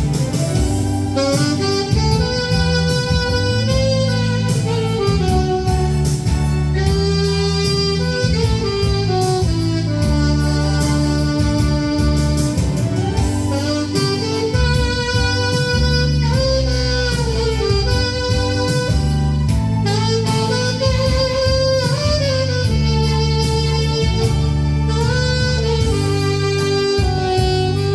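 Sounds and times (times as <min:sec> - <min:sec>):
backing track with bass and guitar: 0:00.0 - 0:27.9
saxophone melody: 0:00.0 - 0:27.9.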